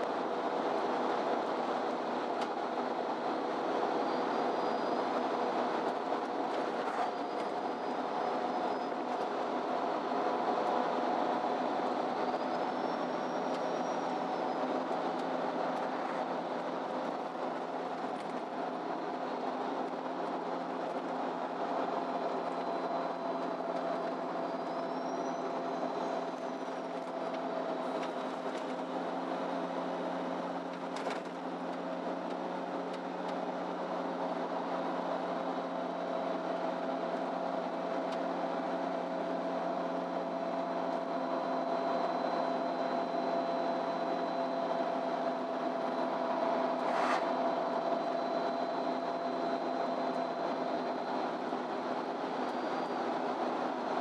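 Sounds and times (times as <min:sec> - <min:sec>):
bus engine hum: 0:00.0 - 0:54.0
road noise: 0:00.0 - 0:54.0
faint high whine: 0:02.9 - 0:54.0.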